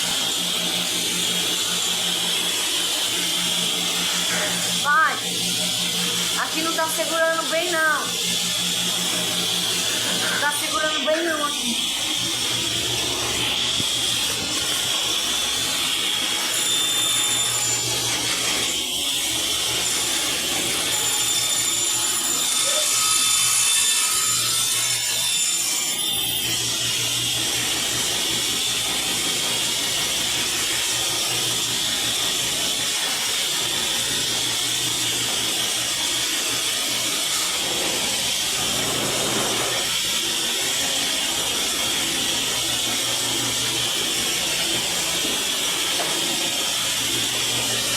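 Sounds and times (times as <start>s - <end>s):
power tool cutting board: 0.0s - 47.9s.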